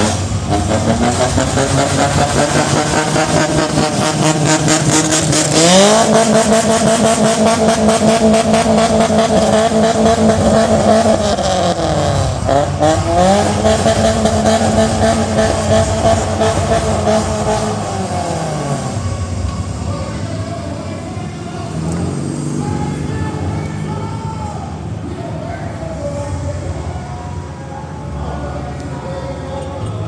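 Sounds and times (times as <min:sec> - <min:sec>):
car engine revving: 0:00.0 - 0:26.8.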